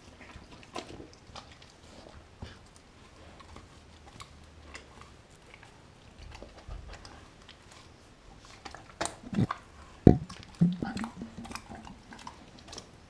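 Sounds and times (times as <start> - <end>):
dog chewing and crunching: 0.0 - 13.0
low steady hum: 0.0 - 13.0.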